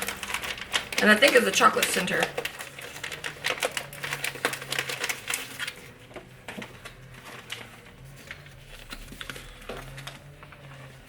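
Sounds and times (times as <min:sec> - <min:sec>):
snack packaging crackling: 0:00.0 - 0:10.9.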